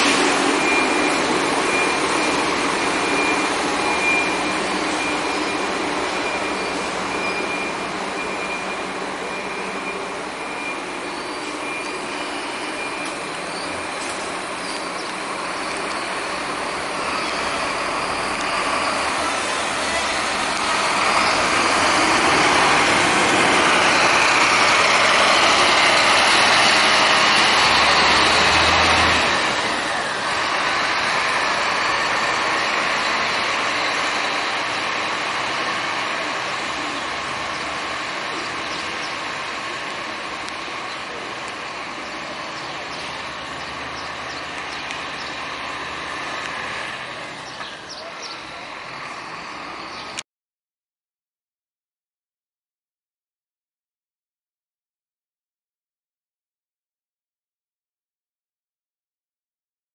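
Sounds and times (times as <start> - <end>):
coach diesel engine accelerating: 0.0 - 50.2.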